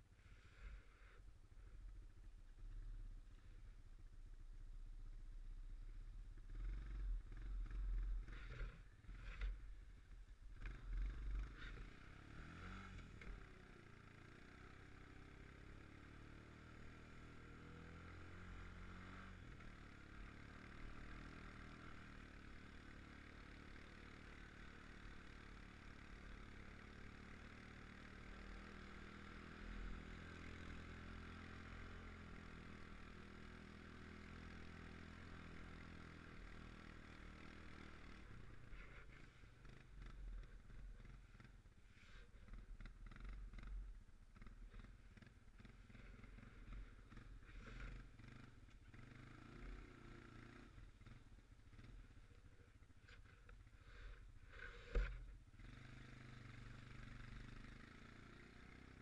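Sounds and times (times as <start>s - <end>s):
atv engine running: 5.0s - 59.0s.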